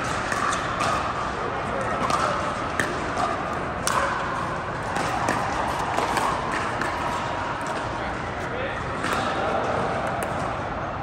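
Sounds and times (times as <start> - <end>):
indoor hall background noise: 0.0 - 11.0.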